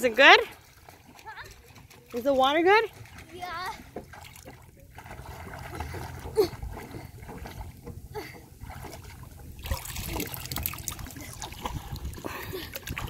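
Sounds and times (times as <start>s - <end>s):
water splashing from swimming: 0.0s - 13.0s.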